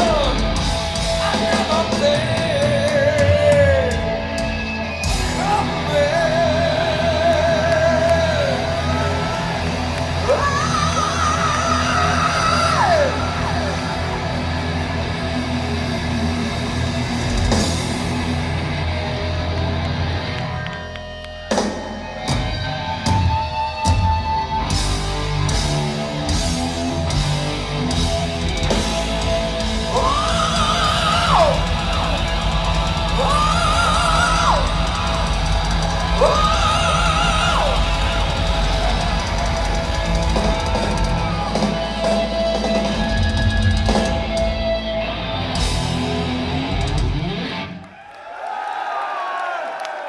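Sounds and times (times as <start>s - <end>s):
heavy metal band playing: 0.0s - 47.8s
crowd cheering and whistling: 0.0s - 50.0s.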